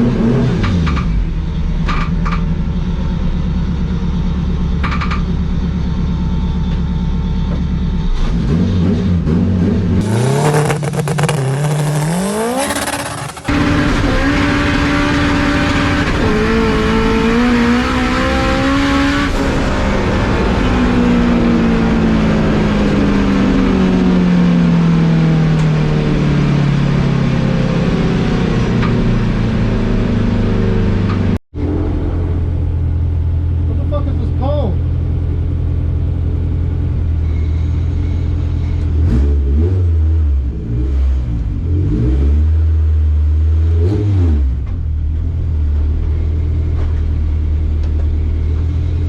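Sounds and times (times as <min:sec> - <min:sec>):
racing car engine accelerating: 0:00.0 - 0:02.4, 0:08.0 - 0:49.0.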